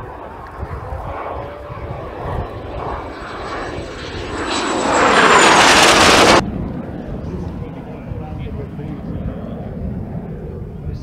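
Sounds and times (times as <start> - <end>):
high turbine whine: 0.0 - 10.9
jet flying past: 0.0 - 11.0.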